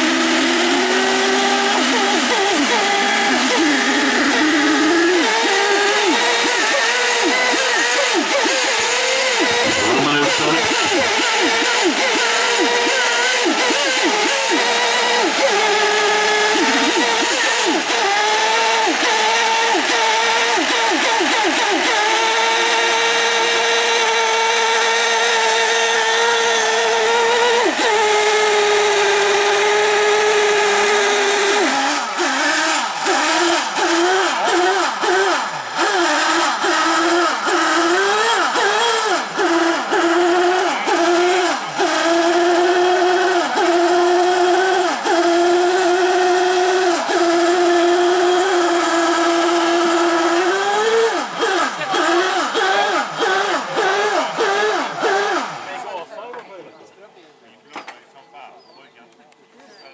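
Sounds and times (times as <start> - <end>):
model boat engines buzzing: 0.0 - 56.0.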